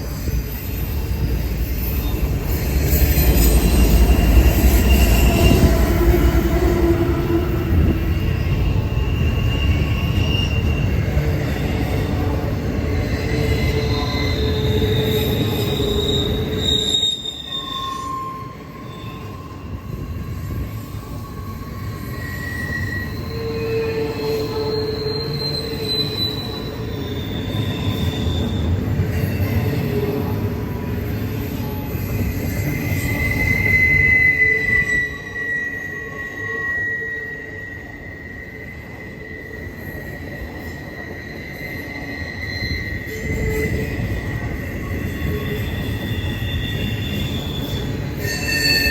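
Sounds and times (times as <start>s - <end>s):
freight train cars rumbling: 0.0s - 48.9s
train wheels squealing: 0.0s - 48.9s.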